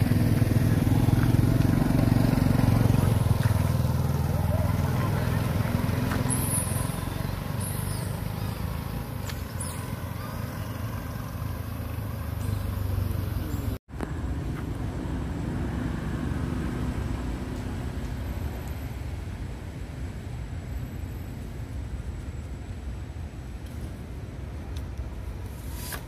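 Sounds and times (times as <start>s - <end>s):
low outdoor rumble: 0.0s - 25.9s.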